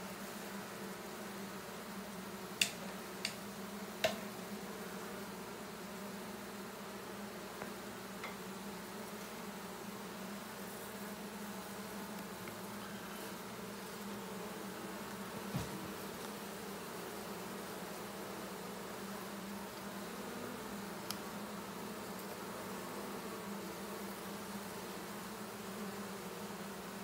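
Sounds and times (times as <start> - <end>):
bee swarm buzzing: 0.0 - 27.0.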